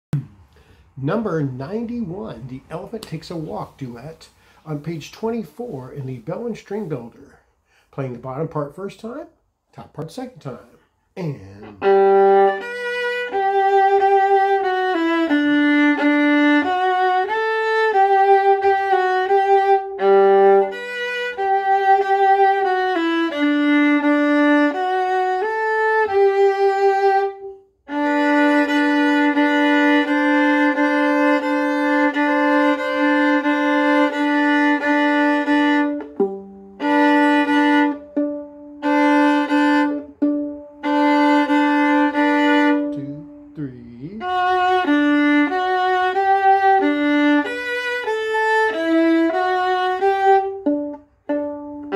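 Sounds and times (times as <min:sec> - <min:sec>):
solo violin playing: 0:00.2 - 0:07.3, 0:10.2 - 0:51.9.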